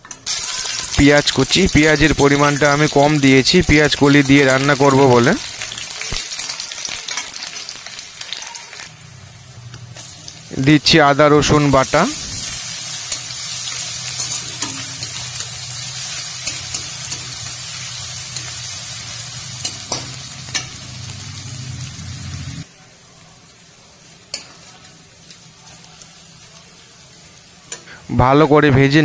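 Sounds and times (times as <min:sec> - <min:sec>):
paste sizzling in oil: 0:00.3 - 0:09.4, 0:10.0 - 0:28.0.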